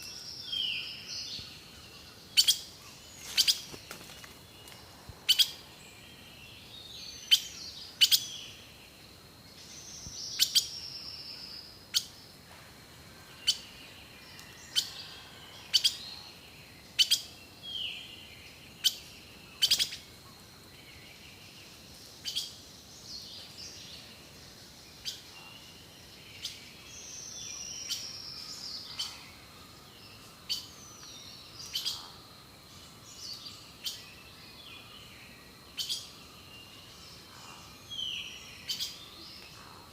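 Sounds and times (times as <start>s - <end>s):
birds chirping: 0.0s - 12.5s, 13.2s - 39.9s.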